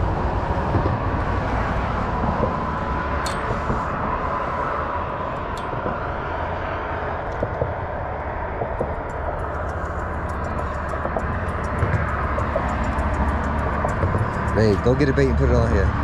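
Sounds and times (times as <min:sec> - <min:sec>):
faint engine drone: 0:00.0 - 0:16.0
outdoor rumble: 0:00.0 - 0:16.0.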